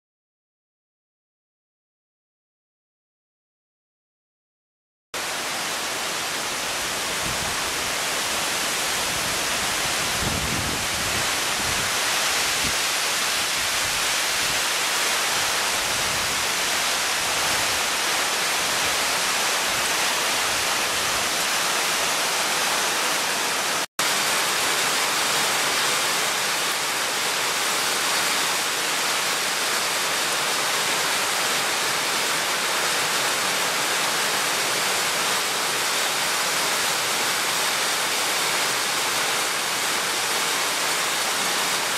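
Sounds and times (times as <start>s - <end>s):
heavy rain on trees: 5.2s - 41.9s.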